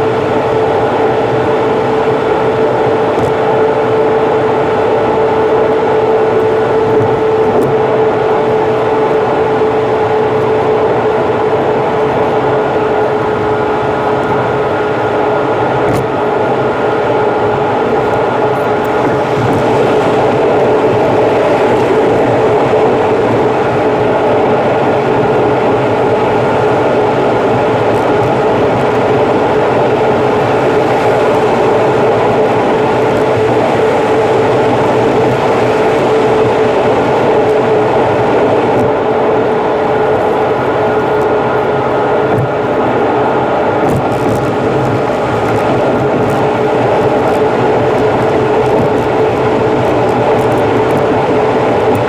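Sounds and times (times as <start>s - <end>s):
car road and engine noise: 0.0s - 52.0s.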